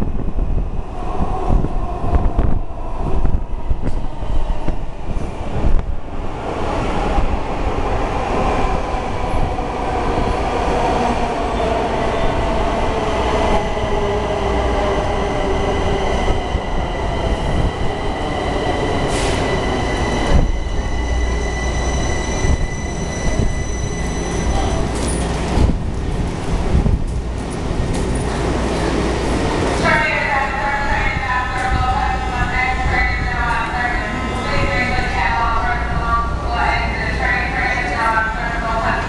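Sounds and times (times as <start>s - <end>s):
train rumble and rail noise: 0.0s - 39.0s.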